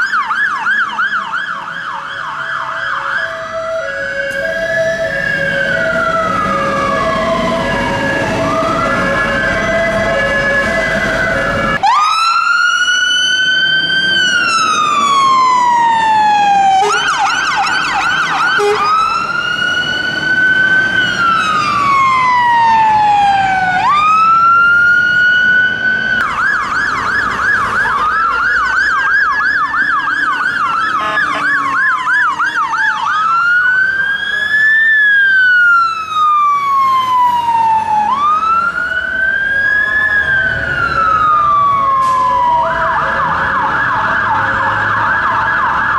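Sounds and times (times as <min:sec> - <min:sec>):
electronic siren wailing: 0:00.0 - 0:45.9
siren fast yelp: 0:00.0 - 0:45.9.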